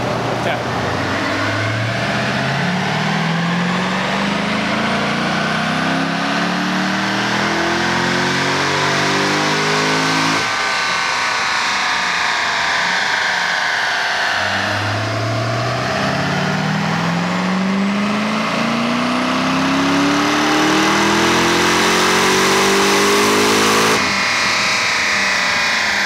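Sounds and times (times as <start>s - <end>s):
engine coasting down with whine: 0.0s - 26.0s
sports car engine revving: 0.0s - 26.0s.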